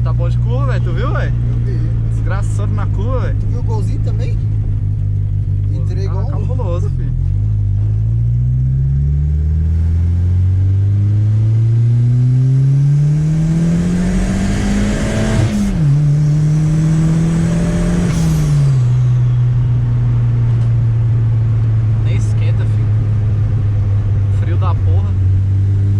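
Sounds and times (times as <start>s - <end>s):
turbocharged car engine accelerating: 0.0s - 25.9s.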